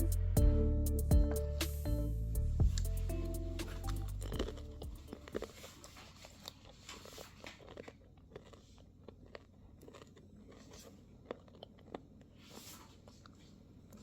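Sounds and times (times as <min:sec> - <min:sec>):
crunching and chewing crisp snack: 0:02.7 - 0:14.0.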